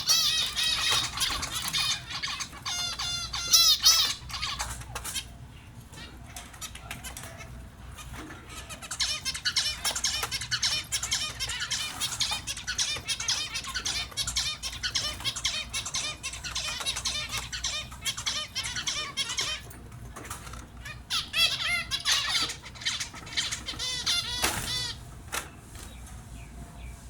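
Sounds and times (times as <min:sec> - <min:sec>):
finches chirping and calling: 0:00.0 - 0:27.0.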